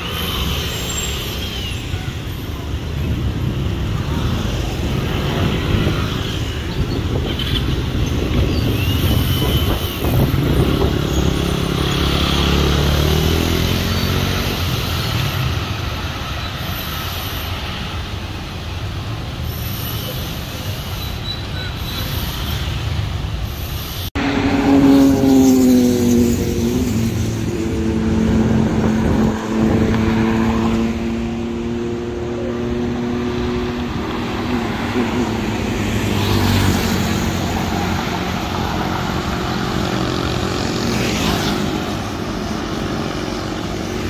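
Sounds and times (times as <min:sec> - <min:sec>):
monorail train passing hum: 0:00.0 - 0:12.3, 0:14.4 - 0:44.0
steady road traffic: 0:00.0 - 0:44.0.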